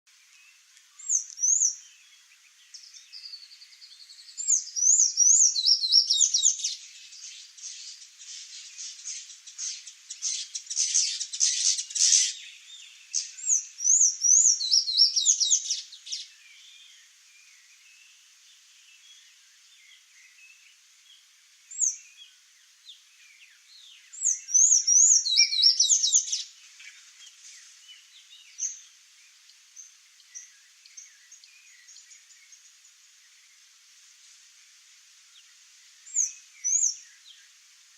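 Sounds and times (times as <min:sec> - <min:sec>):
bird calling and singing: 0:00.2 - 0:18.2, 0:21.7 - 0:33.6, 0:35.4 - 0:37.6.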